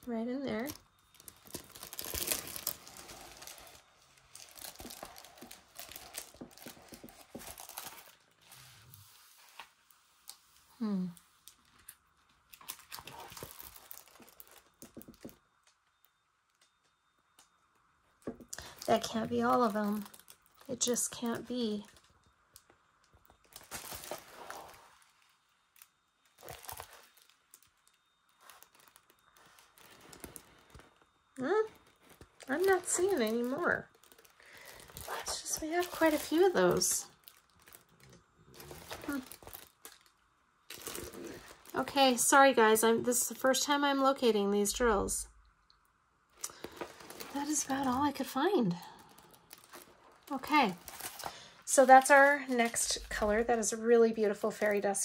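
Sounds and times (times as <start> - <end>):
plastic crinkling and rustling: 0.0 - 45.2, 46.3 - 55.0.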